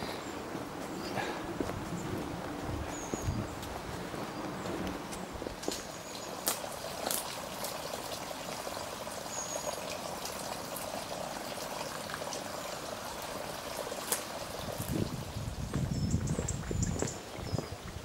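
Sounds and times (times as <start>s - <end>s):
fountain water trickling: 0.0s - 18.0s.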